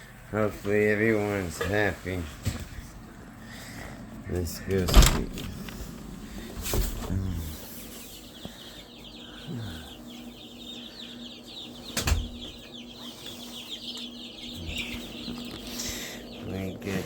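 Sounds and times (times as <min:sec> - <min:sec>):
chicks peeping: 0:00.0 - 0:17.0
steady low hum: 0:00.0 - 0:17.0.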